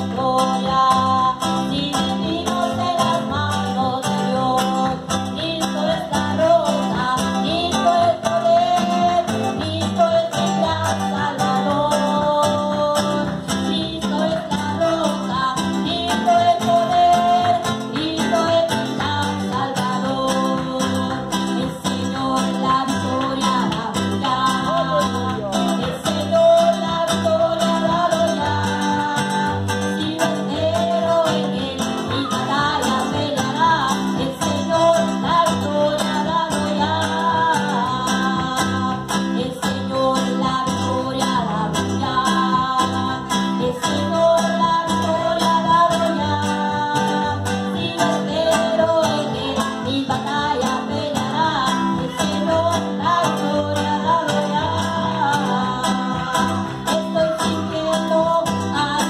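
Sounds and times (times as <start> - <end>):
song with guitar and beat: 0.0 - 59.0.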